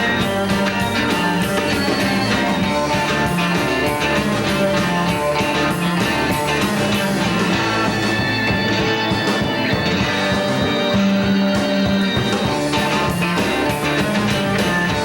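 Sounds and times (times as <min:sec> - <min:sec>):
electric guitar: 0:00.0 - 0:15.0
rock band playing: 0:00.0 - 0:15.0.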